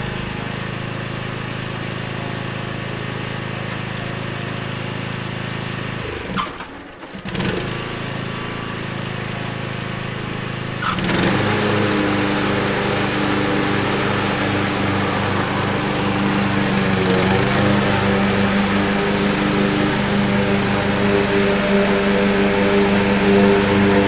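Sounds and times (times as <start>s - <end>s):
riding lawn mower engine: 0.0s - 24.0s.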